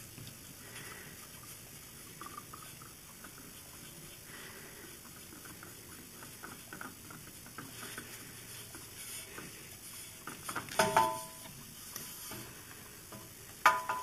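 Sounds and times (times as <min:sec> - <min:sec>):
light ticks and patter: 0:00.0 - 0:14.0.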